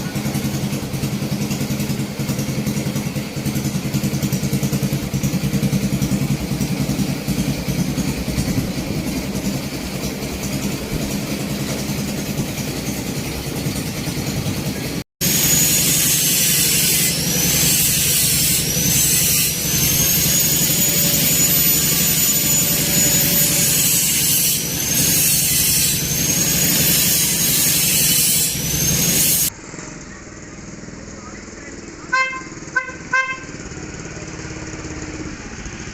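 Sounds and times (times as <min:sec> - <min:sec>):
small engine running: 0:00.0 - 0:35.9.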